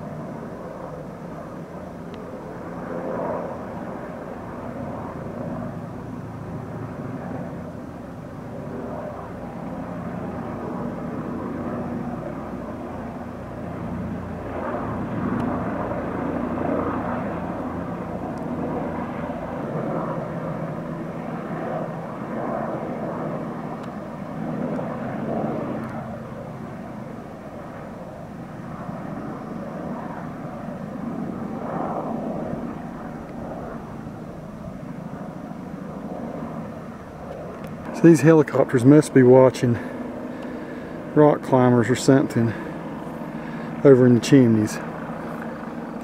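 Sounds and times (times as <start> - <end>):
helicopters flying: 0.0 - 46.0.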